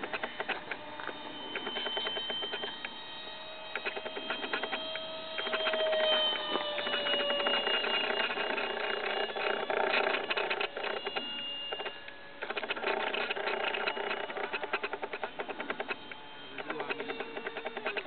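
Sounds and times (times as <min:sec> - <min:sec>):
dense crackle: 0:00.0 - 0:18.0
electric ducted fan whining: 0:00.0 - 0:18.0.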